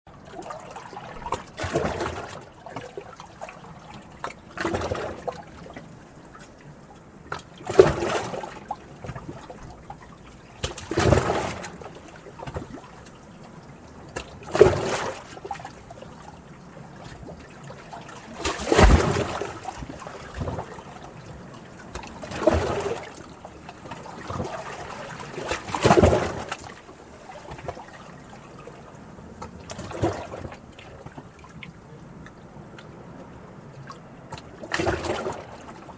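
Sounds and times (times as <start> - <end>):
small sea waves washing: 0.1 - 35.9.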